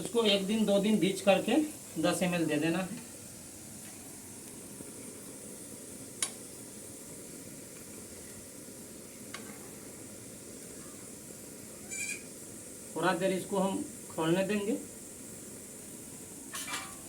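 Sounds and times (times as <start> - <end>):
spices sizzling in a pan: 0.0 - 17.0.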